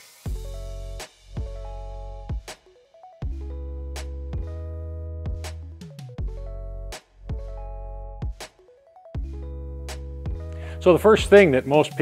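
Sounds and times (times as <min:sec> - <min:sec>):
electronic music with deep bass: 0:00.3 - 0:12.0.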